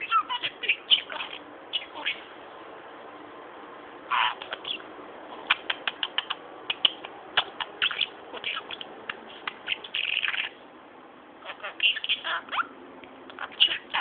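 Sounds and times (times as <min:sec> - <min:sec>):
budgerigar chattering: 0:00.0 - 0:02.3, 0:04.1 - 0:10.6, 0:11.4 - 0:14.0.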